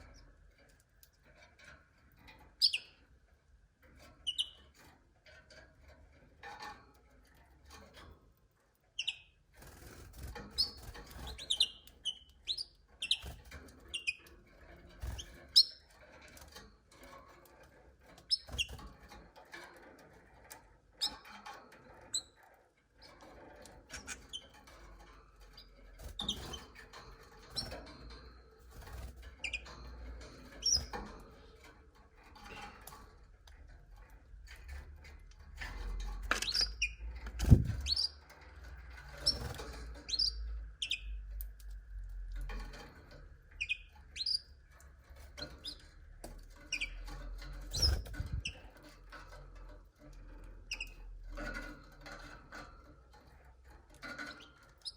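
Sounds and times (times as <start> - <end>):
canaries chirping: 2.3 - 3.2, 4.2 - 4.8, 9.0 - 17.2, 18.2 - 54.9.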